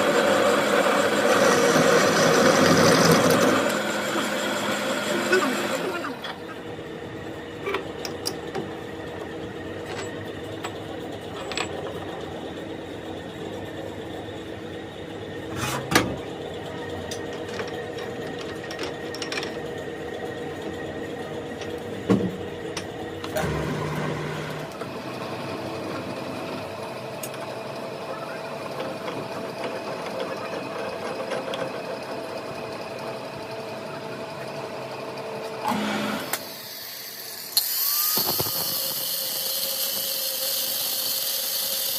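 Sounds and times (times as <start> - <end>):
workshop machine whirring hum: 0.0 - 41.9.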